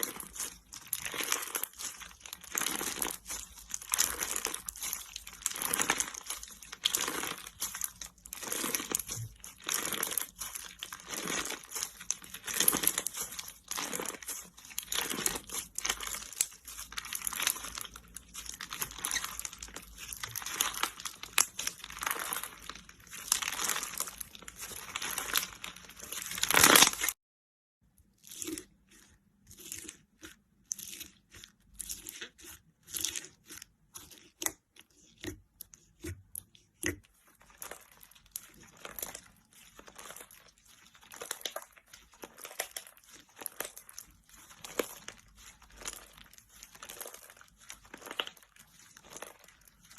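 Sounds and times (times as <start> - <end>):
slime crackling and popping: 0.0 - 27.2, 28.2 - 49.9.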